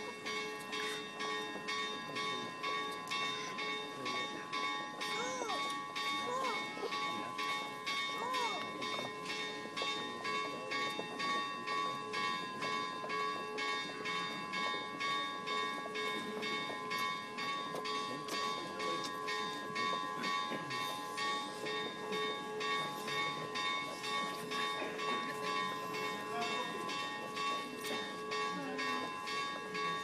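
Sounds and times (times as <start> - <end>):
church bells pealing: 0.0 - 30.0.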